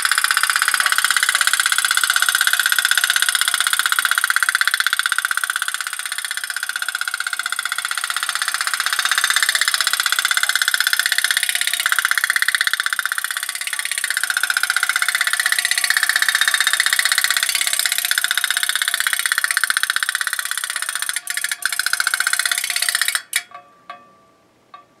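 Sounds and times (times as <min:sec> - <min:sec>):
toy steamboat putt-putt popping: 0:00.0 - 0:24.1.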